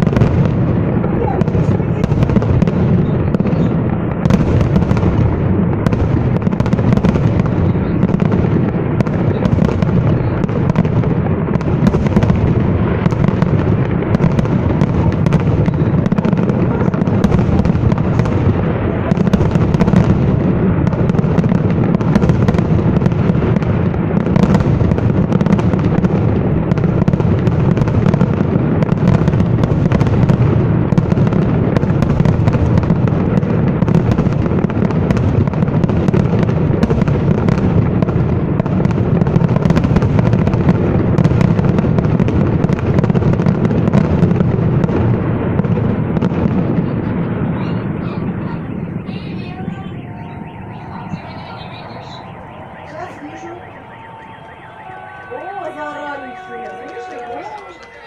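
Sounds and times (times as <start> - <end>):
fireworks booms and cracks: 0.0 - 58.0.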